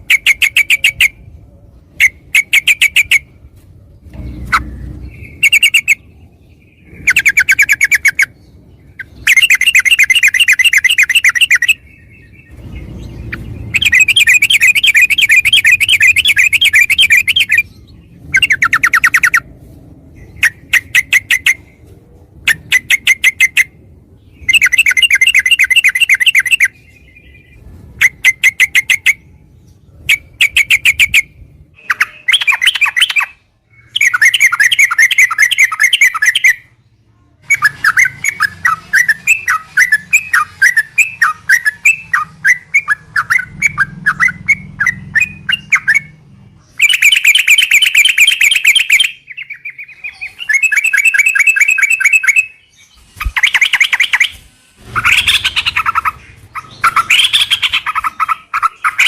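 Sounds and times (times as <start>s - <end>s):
bird singing rolling trills: 0.0s - 59.0s.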